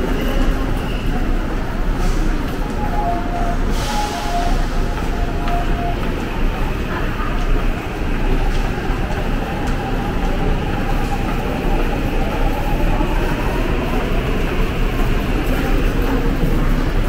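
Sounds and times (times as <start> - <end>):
subway train rumble: 0.0 - 17.0.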